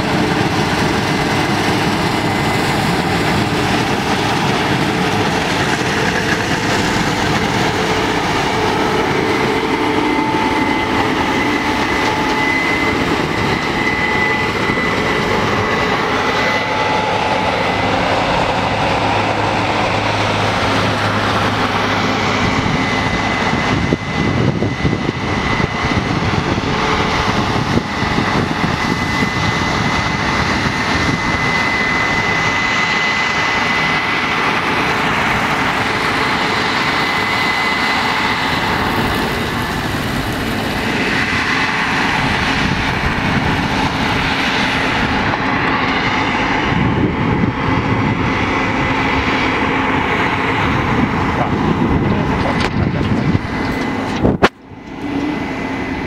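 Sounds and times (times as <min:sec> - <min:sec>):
combine harvester engine drone: 0:00.0 - 0:56.0
thin high whine: 0:00.0 - 0:56.0.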